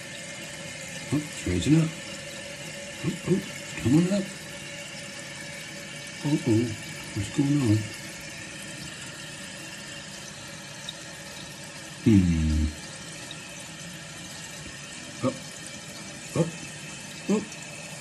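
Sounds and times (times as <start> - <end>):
toilet tank refilling hiss: 0.0 - 18.0.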